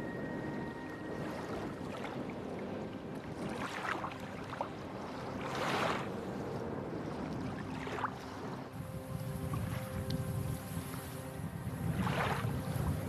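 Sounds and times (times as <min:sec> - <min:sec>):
lake water washing at shore: 0:00.0 - 0:13.0
wind on microphone: 0:00.0 - 0:13.0.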